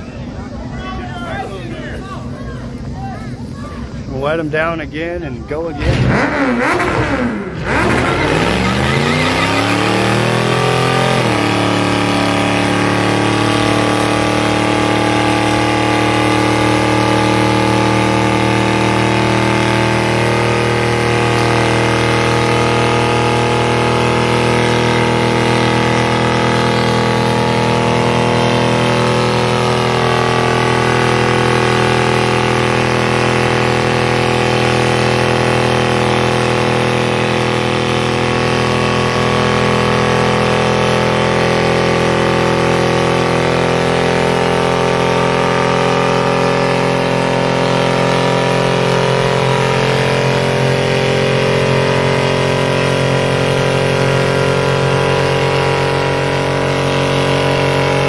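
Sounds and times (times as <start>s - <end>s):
car engine revving: 1.8s - 58.0s.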